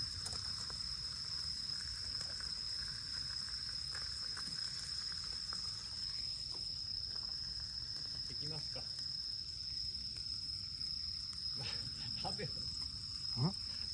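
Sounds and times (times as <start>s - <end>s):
insects trilling: 0.0s - 13.9s.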